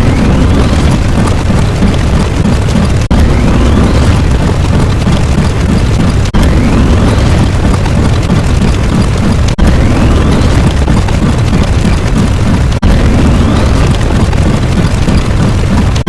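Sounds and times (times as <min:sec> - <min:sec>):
explosion rumble: 0:00.0 - 0:16.0.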